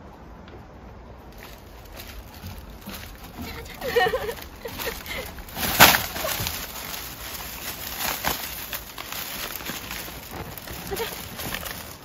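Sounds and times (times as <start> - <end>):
footsteps on wooden deck: 1.3 - 12.0
plastic bags rustling: 1.3 - 12.0.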